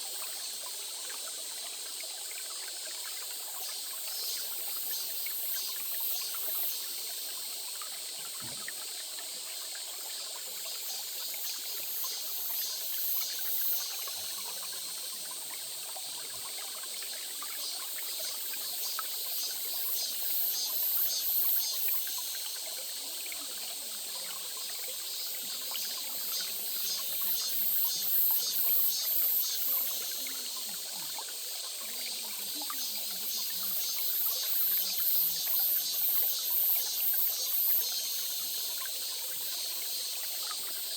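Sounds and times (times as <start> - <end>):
stream trickling over stones: 0.0 - 40.9.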